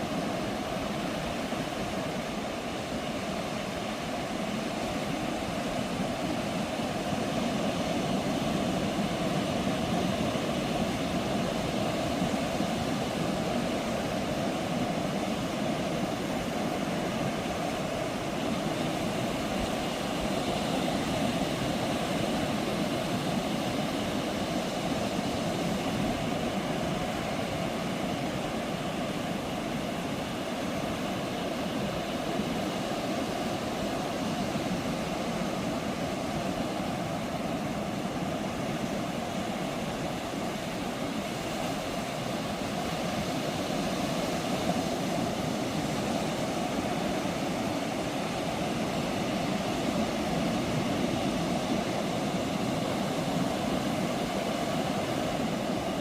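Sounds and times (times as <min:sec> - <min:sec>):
ocean surf breaking on sand: 0:00.0 - 0:56.0.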